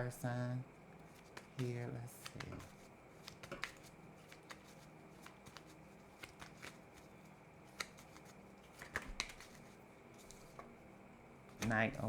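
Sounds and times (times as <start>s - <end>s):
cards being shuffled: 1.0s - 10.7s, 11.5s - 12.0s.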